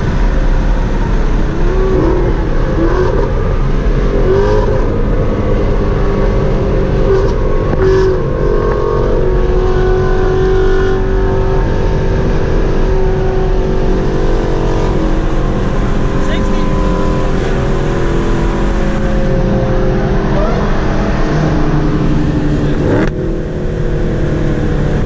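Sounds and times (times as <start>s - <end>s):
car engine drone: 0.0s - 25.0s
road noise: 0.0s - 25.0s.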